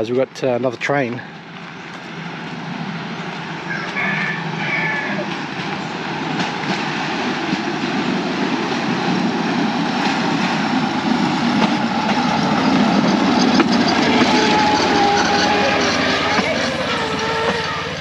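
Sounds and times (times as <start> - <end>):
wheels rattling over rails: 0.7 - 18.0.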